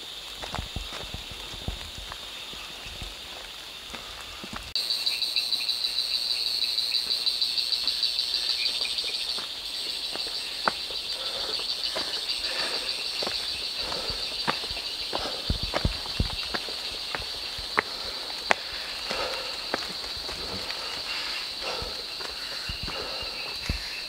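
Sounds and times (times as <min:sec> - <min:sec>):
footsteps on muddy trail: 0:00.0 - 0:04.8, 0:07.0 - 0:24.0
insects chirring: 0:00.0 - 0:24.0.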